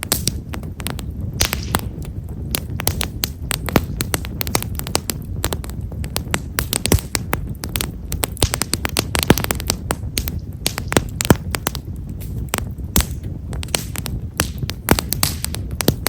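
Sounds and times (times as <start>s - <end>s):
bonfire crackling: 0.0s - 16.0s
low steady rumble: 0.0s - 16.0s.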